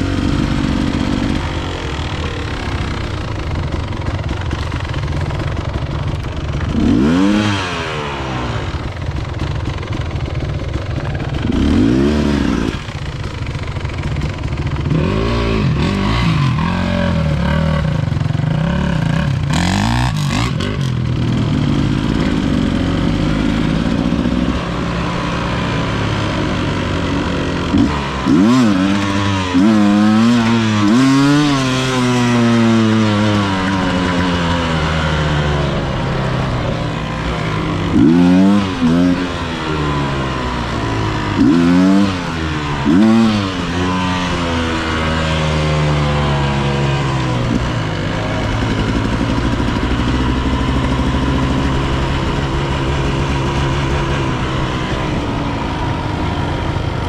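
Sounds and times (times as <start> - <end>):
motorcycle engine with throttle blips: 0.0 - 57.0.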